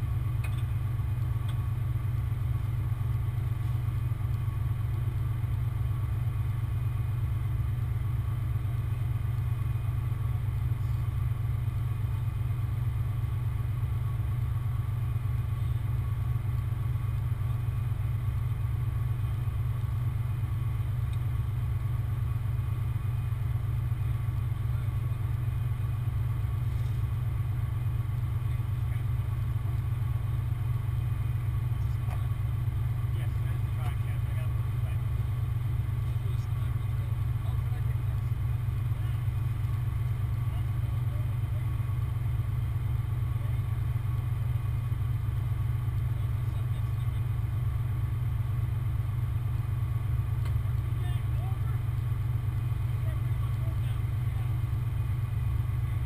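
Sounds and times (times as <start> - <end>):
large engine running steadily: 0.0 - 56.0.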